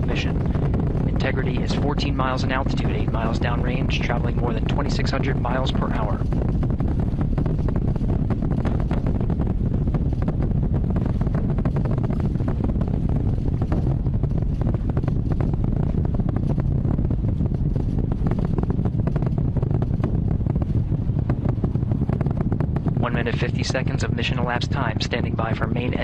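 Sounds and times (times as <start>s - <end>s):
rocket engines rumbling and crackling: 0.0s - 26.0s.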